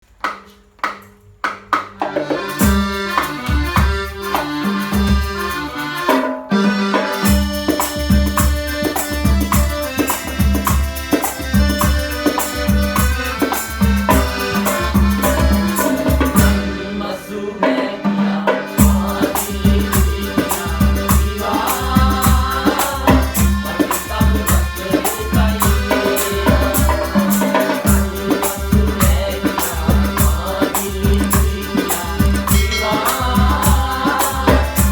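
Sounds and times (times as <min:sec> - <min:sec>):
calypso band instrumental: 0:00.2 - 0:34.9.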